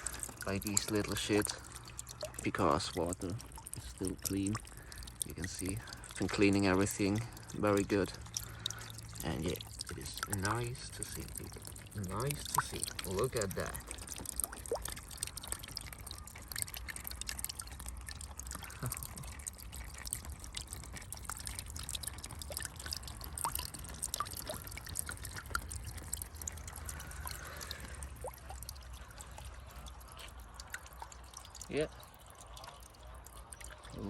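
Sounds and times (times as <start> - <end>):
waterfall splashing into pond: 0.0 - 34.0.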